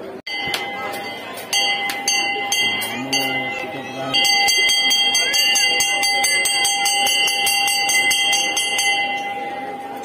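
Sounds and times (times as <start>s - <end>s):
brass bell rung by hand: 0.3s - 10.0s.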